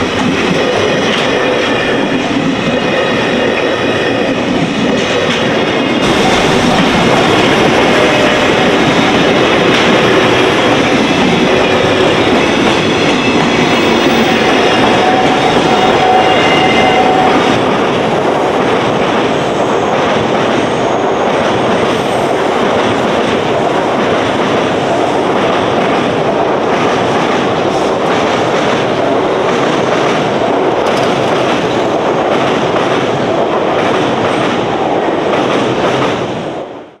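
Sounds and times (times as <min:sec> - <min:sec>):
train wheels clattering over rail joints: 0:00.0 - 0:34.6.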